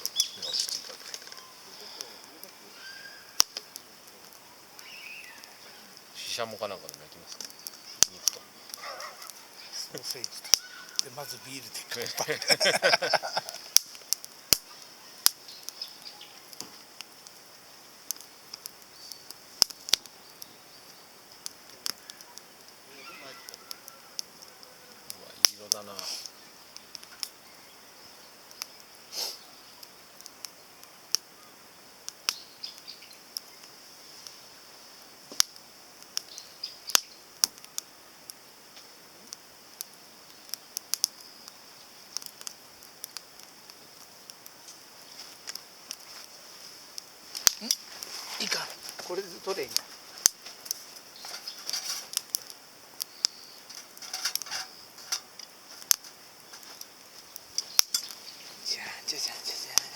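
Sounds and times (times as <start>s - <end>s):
faint steady fire hiss: 0.0s - 59.9s
wood fire popping and ticking: 0.0s - 59.9s.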